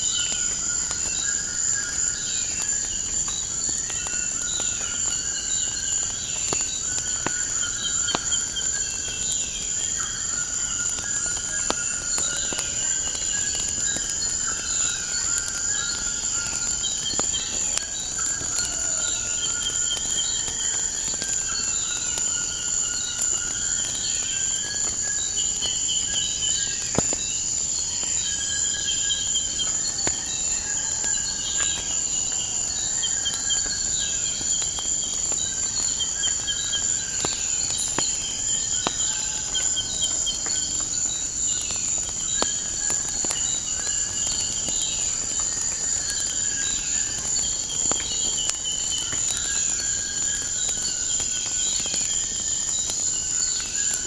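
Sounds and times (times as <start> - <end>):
crickets chirping: 0.0 - 54.0
wood fire crackling: 0.0 - 54.0.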